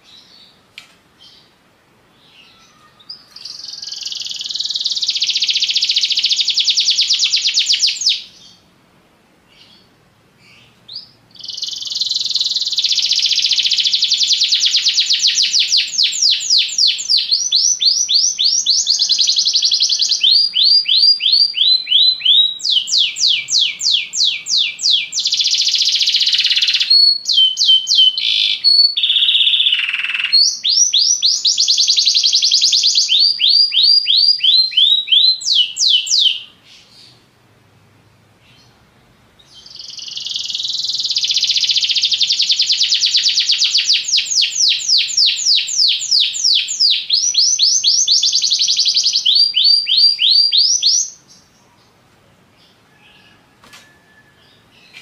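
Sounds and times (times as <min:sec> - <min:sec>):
canary singing: 0:01.2 - 0:08.7, 0:09.5 - 0:37.3, 0:39.4 - 0:52.0.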